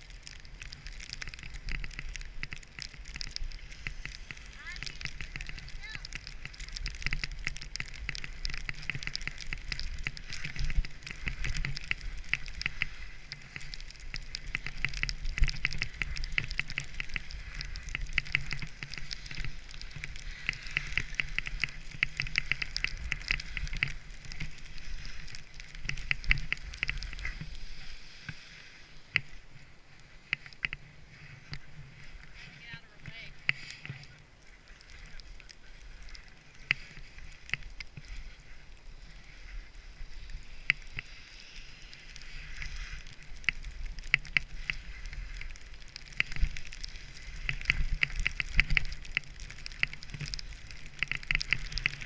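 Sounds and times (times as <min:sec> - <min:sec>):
skis scraping over snow: 0:00.0 - 0:52.0.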